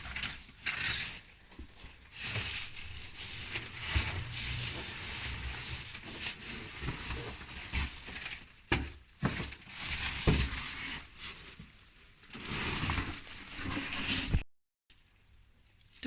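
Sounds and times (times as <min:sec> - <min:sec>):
plastic bags rustling: 0:00.0 - 0:14.4.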